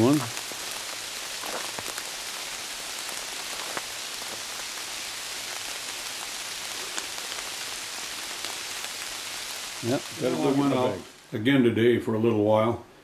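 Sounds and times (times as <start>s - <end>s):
steady rain: 0.0s - 12.6s.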